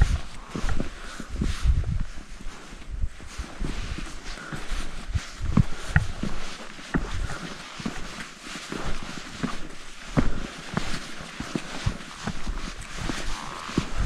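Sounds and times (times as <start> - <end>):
footsteps on a trail: 0.0 - 14.0.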